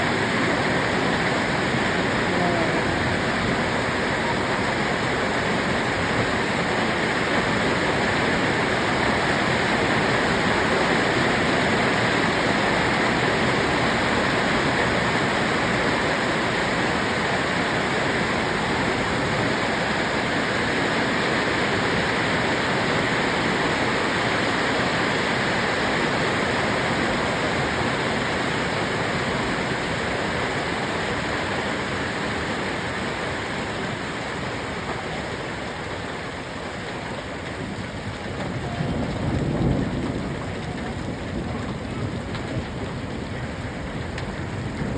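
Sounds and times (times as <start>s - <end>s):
hail and rain falling hard: 0.0s - 44.9s.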